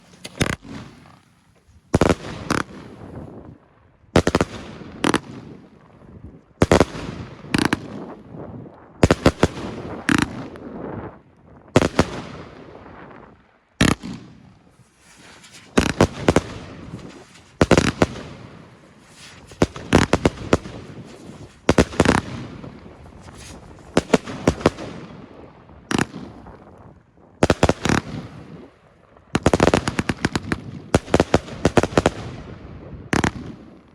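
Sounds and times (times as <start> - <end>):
rapid-fire firework cracks: 0.0 - 3.2, 4.2 - 5.4, 6.6 - 8.3, 9.0 - 10.9, 11.8 - 12.7, 13.8 - 26.8, 27.4 - 33.9.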